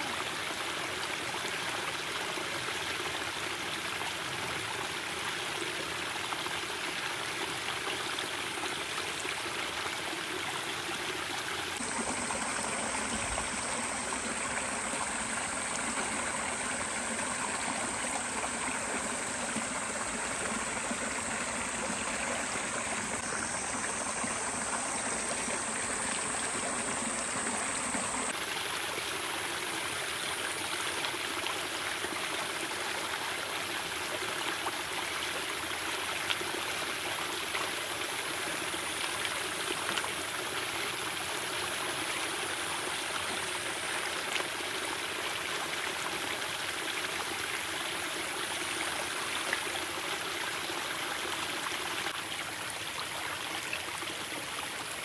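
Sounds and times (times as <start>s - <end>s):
stream water rushing: 2.3s - 55.0s.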